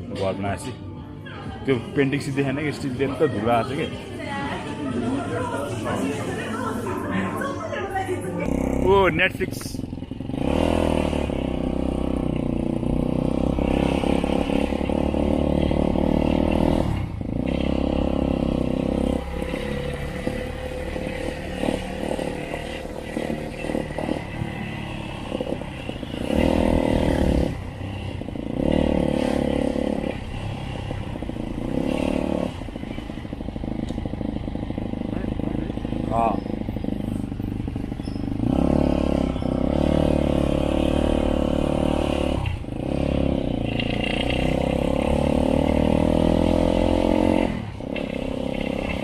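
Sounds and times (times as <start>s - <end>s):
motorcycle engine running: 8.4s - 49.0s.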